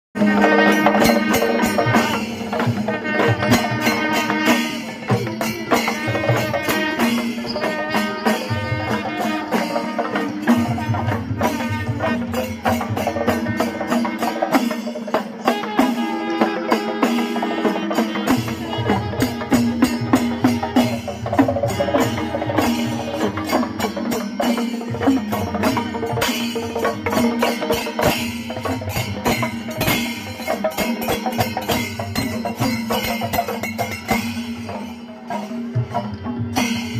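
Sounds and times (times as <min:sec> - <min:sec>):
drums: 0:00.2 - 0:36.9
hand cymbals clashing: 0:00.2 - 0:36.9
wavering wind instrument melody: 0:00.2 - 0:36.9.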